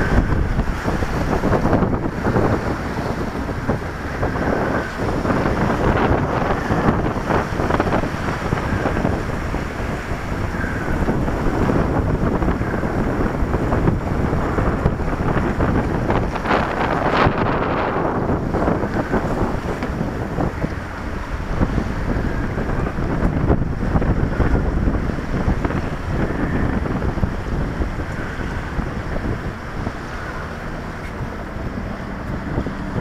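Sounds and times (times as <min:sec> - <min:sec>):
water rushing along a hull: 0:00.0 - 0:33.0
wind buffeting the microphone: 0:00.0 - 0:33.0.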